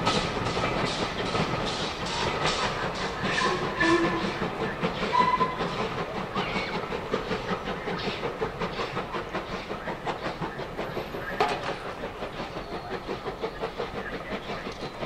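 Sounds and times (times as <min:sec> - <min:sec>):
train wheels clicking on rail joints: 0:00.0 - 0:15.0.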